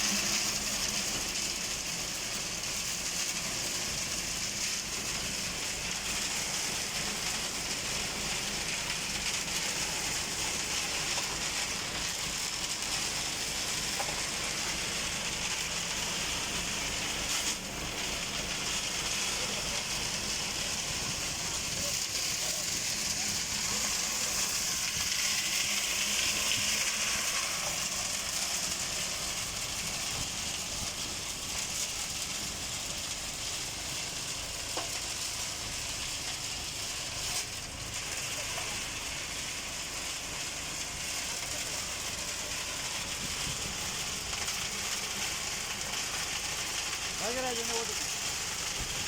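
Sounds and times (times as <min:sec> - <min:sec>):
concrete mixer drum hissing: 0:00.0 - 0:49.0.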